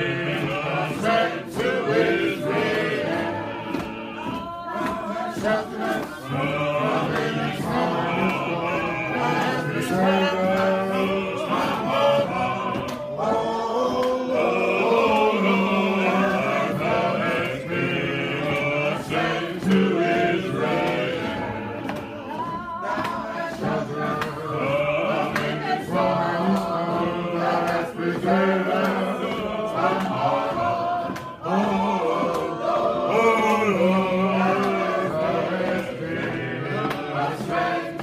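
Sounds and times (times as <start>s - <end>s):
gospel choir singing: 0.0s - 38.0s.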